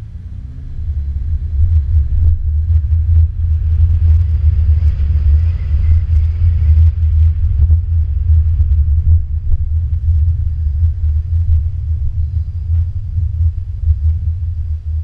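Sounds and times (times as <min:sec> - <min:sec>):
engine rumble: 0:00.0 - 0:15.0.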